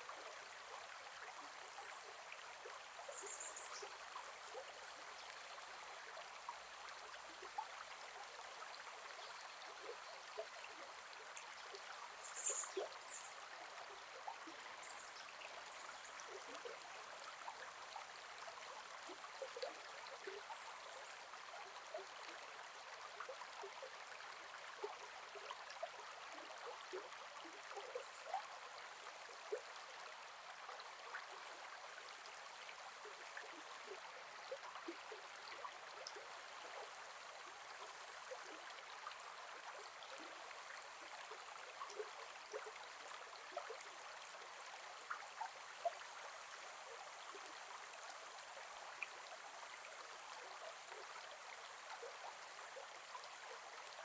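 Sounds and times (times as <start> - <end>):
river flowing and babbling: 0.0 - 54.0.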